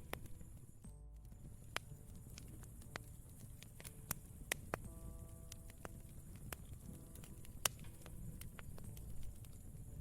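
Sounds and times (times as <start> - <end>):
campfire sharp pops: 0.0 - 10.0
low rumble of burning fire: 0.0 - 10.0.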